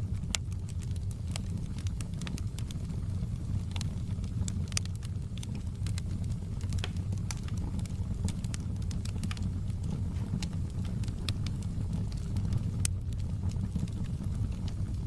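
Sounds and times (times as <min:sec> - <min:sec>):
burning wood crackling: 0:00.0 - 0:15.0
fireplace fire rumbling: 0:00.0 - 0:15.0.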